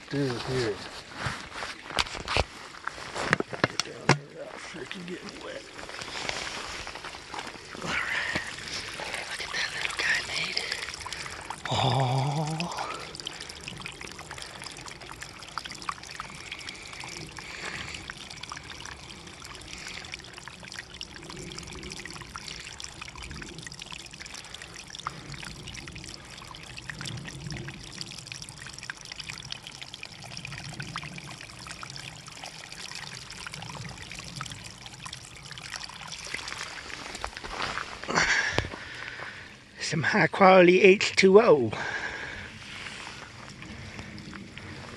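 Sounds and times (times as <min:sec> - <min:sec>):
water pouring into plastic bottle: 0:00.0 - 0:39.5, 0:41.8 - 0:44.9.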